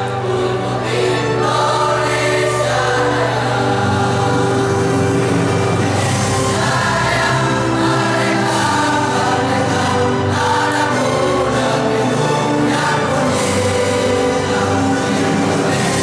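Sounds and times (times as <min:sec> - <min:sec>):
male choir singing: 0:00.0 - 0:16.0.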